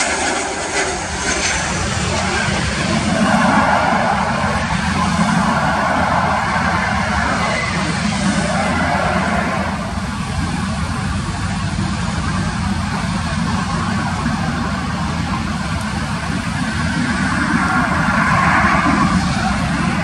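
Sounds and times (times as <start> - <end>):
jet engine noise: 0.0 - 20.0
wind buffeting microphone: 0.0 - 20.0.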